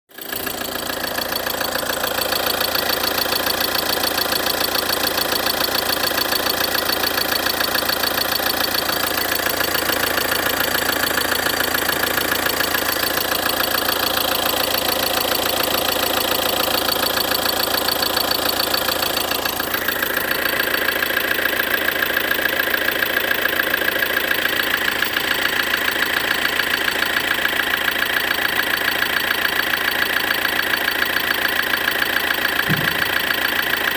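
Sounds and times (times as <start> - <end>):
diesel engine running: 0.1 - 33.9
engine knocking: 0.1 - 33.9.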